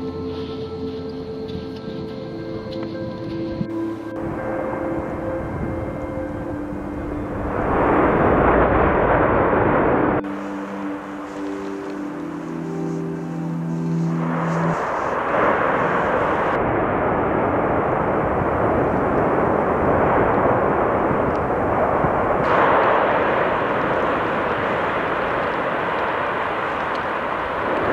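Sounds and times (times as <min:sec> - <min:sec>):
loud rushing rumble: 0:04.1 - 0:27.9.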